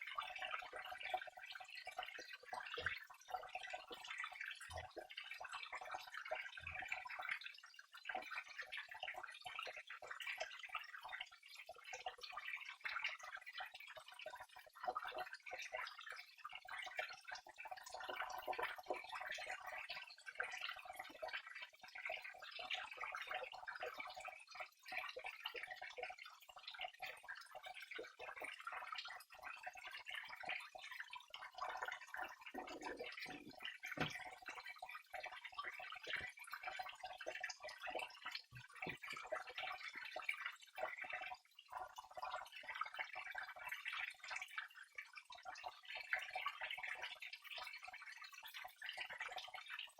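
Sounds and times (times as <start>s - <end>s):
water trickling and dripping: 0.0s - 49.9s.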